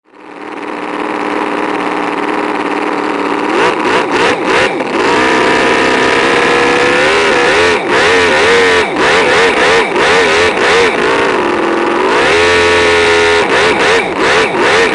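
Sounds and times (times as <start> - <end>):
motor engine revving: 0.1 - 14.9.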